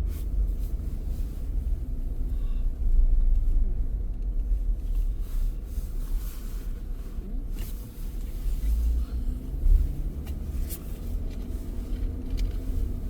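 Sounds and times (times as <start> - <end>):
faint engine hum: 0.0 - 13.0
road rumble inside car: 0.0 - 13.0.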